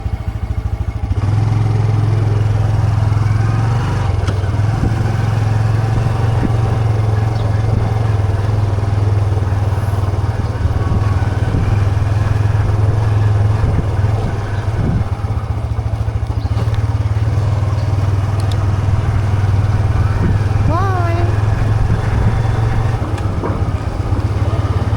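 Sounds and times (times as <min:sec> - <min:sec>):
small engine running: 0:00.0 - 0:24.9.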